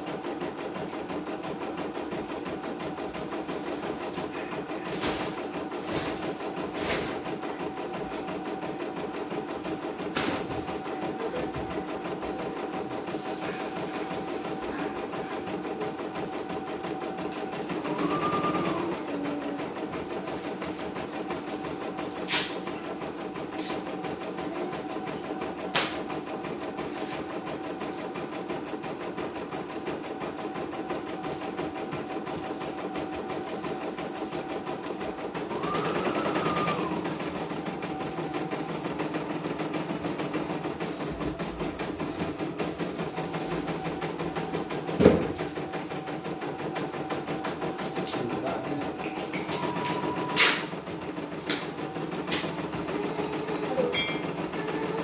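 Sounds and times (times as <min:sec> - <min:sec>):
embroidery machine stitching: 0:00.0 - 0:55.0.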